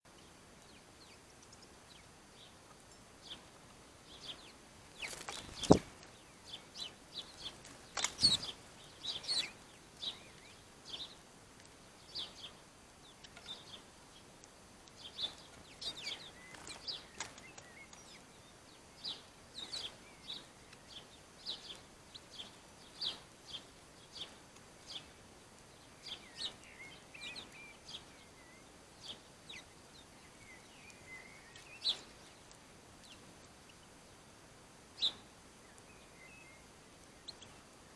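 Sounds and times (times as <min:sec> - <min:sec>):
birds chirping: 0:00.2 - 0:11.4, 0:12.0 - 0:34.2, 0:35.0 - 0:37.9.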